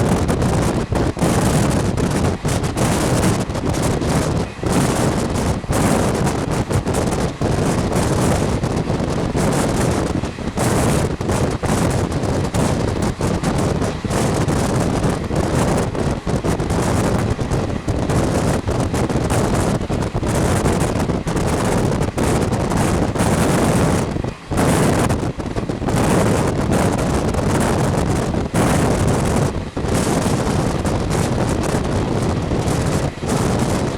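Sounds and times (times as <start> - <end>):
train running rumble: 0.0 - 33.9
wind buffeting microphone: 0.0 - 33.9.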